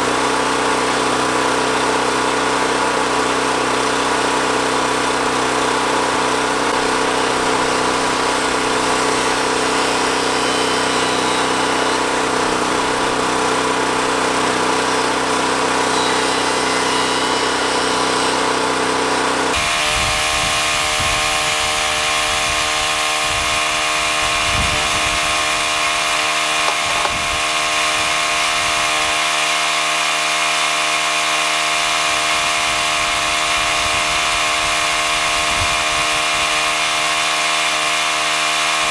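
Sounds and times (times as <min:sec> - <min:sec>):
small engine humming: 0:00.0 - 0:38.9.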